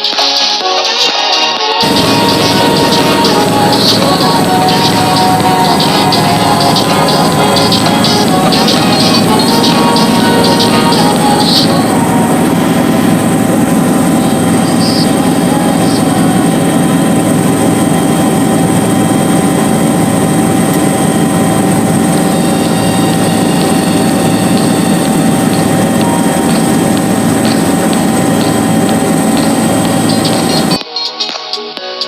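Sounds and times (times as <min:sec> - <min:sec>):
helicopter running: 0:01.8 - 0:30.8.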